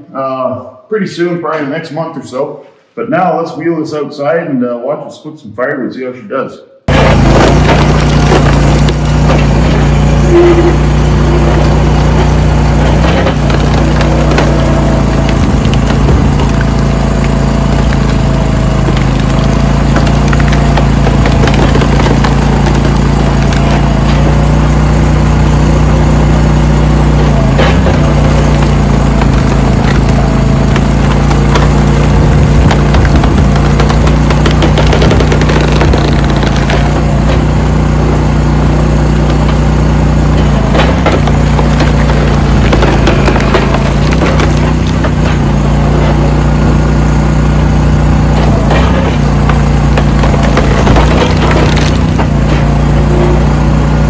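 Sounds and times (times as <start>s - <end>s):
log splitter engine running: 6.9s - 54.0s.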